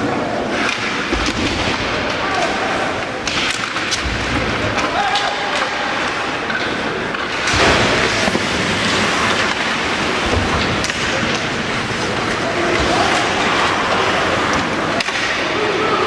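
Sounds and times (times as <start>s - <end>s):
hum of spectators' voices: 0.0s - 16.0s
skates scraping ice: 0.0s - 16.0s
sticks and puck clacking: 0.0s - 16.0s.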